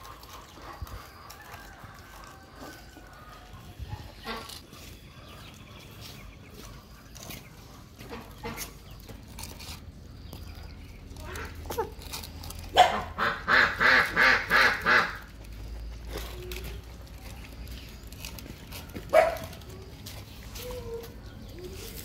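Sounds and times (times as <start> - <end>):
soft scattered sounds: 0.0 - 13.3, 13.9 - 22.0.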